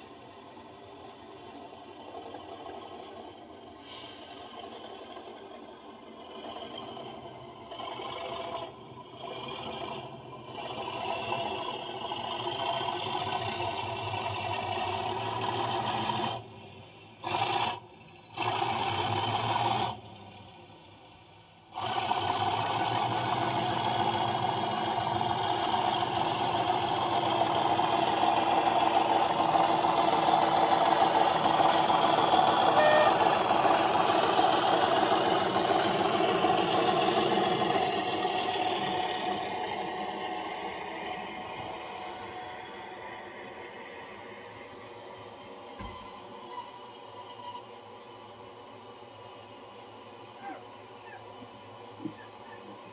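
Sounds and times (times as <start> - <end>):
model diesel engine sound: 0.0 - 52.9.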